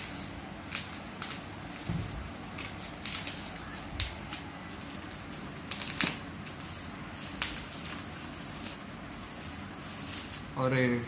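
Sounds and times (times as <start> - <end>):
bubble wrap rustling and crinkling: 0.0 - 11.0.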